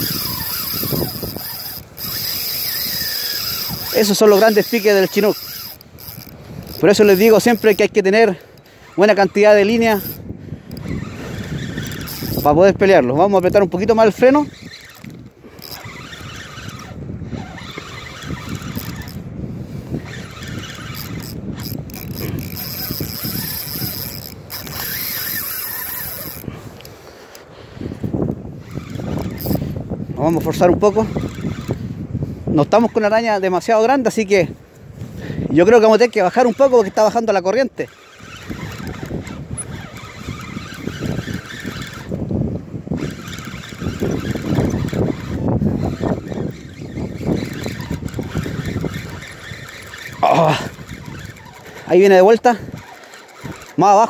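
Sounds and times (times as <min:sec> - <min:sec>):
fishing reel drag clicking: 0:00.0 - 0:54.0
handling and wind rumble: 0:00.0 - 0:54.0.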